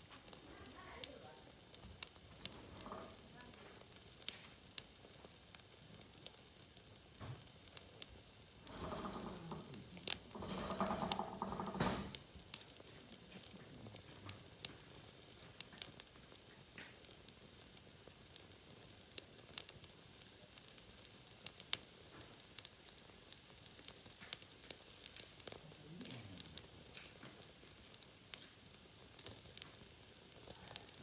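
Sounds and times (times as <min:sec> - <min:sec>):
faint steady hiss: 0:00.0 - 0:31.0
wood fire crackling and popping: 0:00.0 - 0:31.0.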